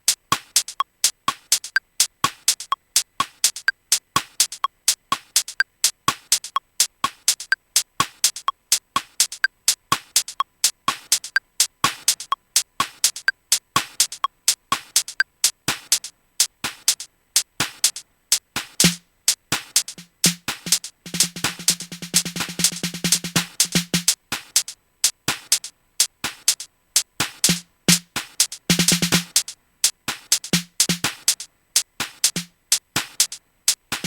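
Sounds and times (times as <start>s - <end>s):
clicky electronic percussion: 0.1s - 34.0s.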